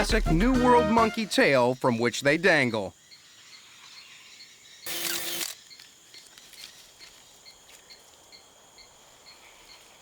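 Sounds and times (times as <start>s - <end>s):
insect chirping: 1.2s - 10.0s
insects buzzing: 1.2s - 10.0s.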